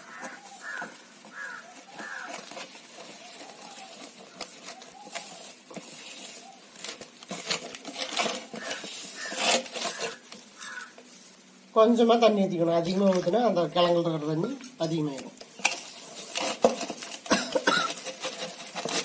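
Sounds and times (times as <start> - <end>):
hand mixing moist batter: 0.0 - 19.0.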